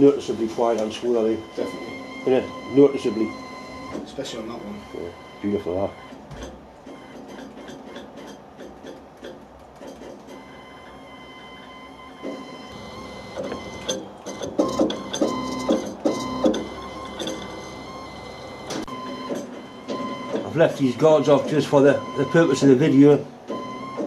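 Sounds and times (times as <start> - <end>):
stepper motors whining: 0.0 - 6.2, 10.3 - 24.0
irregular pulses and clicks: 0.7 - 24.0.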